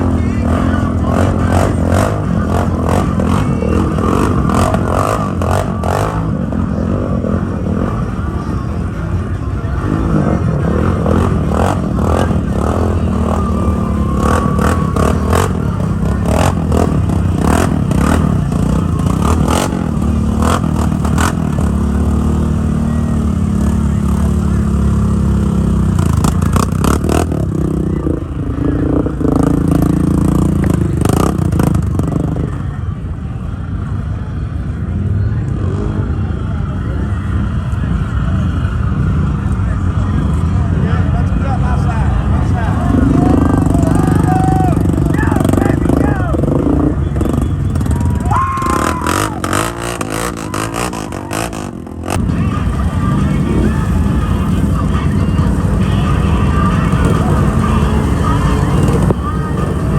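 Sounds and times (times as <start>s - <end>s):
atv engine revving hard: 0.0s - 8.1s, 9.8s - 32.6s, 42.6s - 59.9s.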